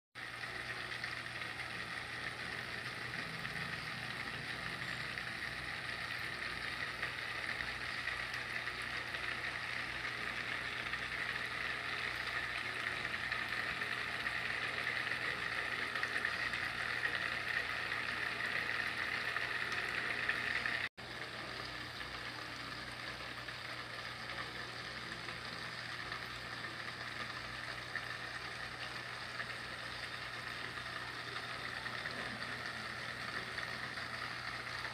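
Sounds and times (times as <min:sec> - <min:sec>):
low pump hum: 0:00.2 - 0:34.9
water trickling into pond: 0:00.2 - 0:34.9.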